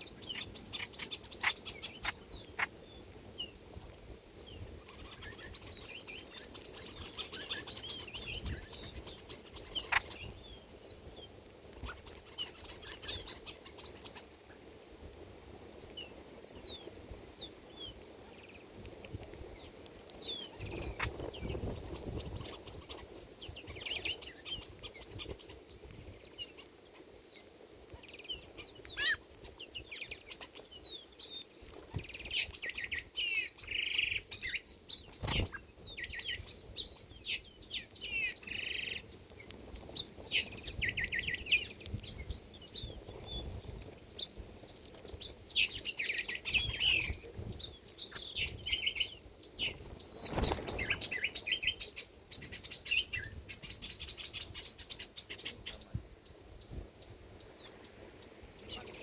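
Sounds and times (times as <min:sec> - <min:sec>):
flock of small birds chirping: 0:00.0 - 0:59.0.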